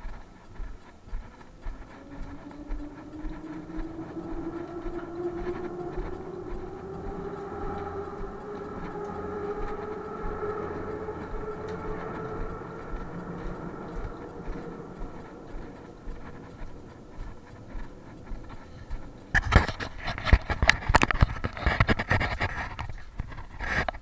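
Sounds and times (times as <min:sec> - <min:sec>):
train traction motors whining: 0:00.0 - 0:21.6.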